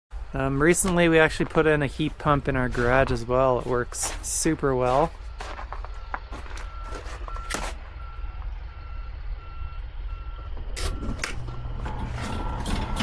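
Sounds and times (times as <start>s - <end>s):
backup alarm beeping: 0.8s - 13.0s.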